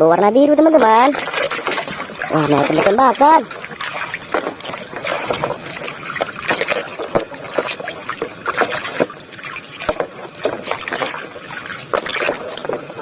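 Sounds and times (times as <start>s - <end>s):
water splashing and trickling: 0.4s - 13.0s.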